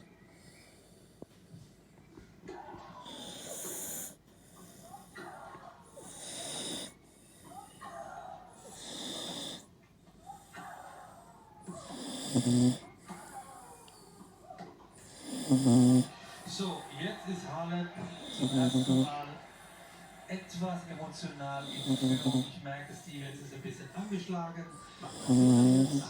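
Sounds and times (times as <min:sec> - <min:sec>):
dog snoring loudly: 0:03.0 - 0:07.0, 0:07.9 - 0:09.7, 0:10.5 - 0:26.0.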